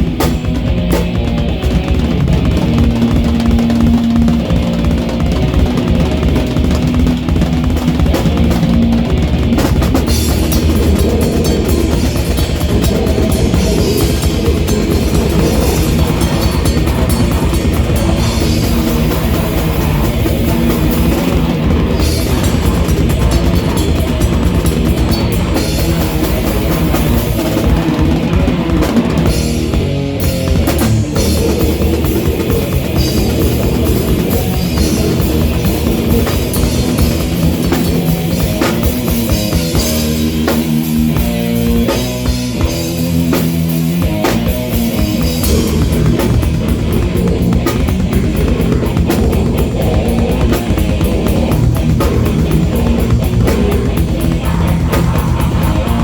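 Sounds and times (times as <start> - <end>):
bass: 0.0 - 56.0
drum kit: 0.0 - 56.0
guitar riff: 0.0 - 56.0.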